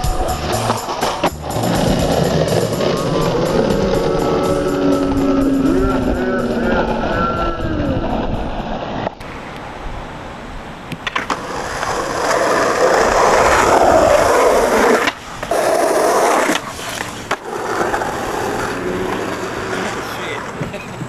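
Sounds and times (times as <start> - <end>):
skateboard clacking on ground: 0.0 - 8.2, 10.9 - 21.0
skateboard wheels rolling on asphalt: 0.0 - 21.0.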